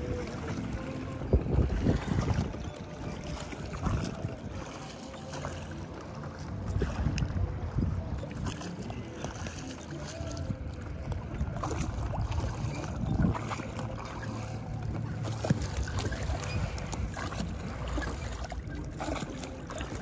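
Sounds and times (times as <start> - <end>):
motorboat engine droning: 0.0 - 20.0
water rushing: 0.0 - 20.0.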